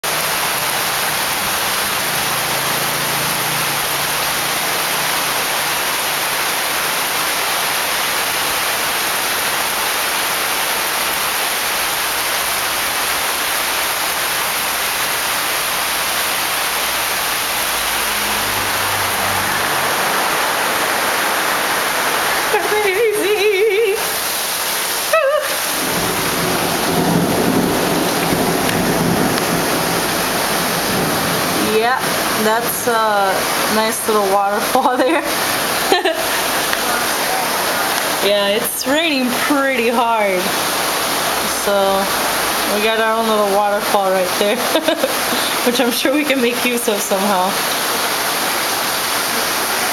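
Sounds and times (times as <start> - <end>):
heavy rain hissing: 0.0 - 49.9.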